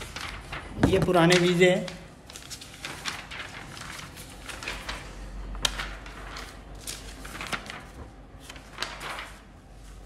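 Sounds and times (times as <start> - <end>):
paper rustling and sliding: 0.0 - 10.0.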